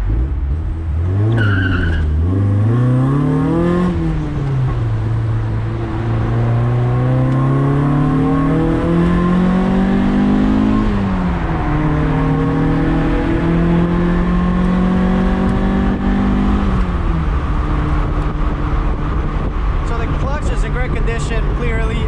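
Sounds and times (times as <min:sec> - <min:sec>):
car engine revving through gears: 0:00.0 - 0:20.3.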